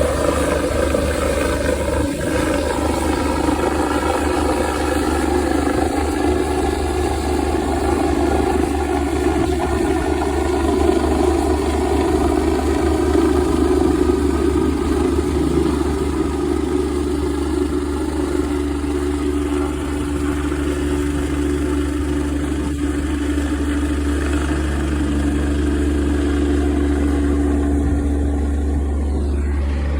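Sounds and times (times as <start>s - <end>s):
helicopter drone: 0.0s - 29.9s.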